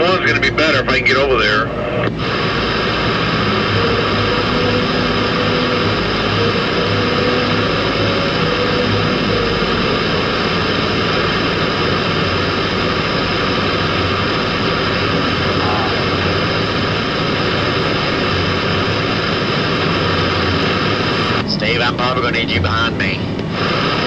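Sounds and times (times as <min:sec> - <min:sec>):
highway traffic passing: 0:00.0 - 0:23.6
truck engine rumbling: 0:00.0 - 0:24.0.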